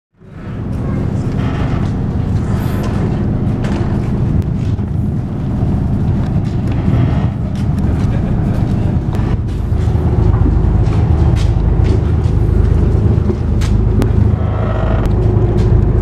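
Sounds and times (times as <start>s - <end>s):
boat engine rumble: 0.2s - 16.0s
faint droning tones: 0.2s - 16.0s.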